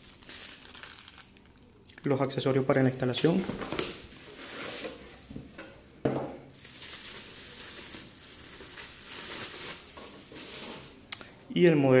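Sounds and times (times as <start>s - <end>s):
bubble wrap crinkling: 0.0s - 5.4s, 6.5s - 11.0s.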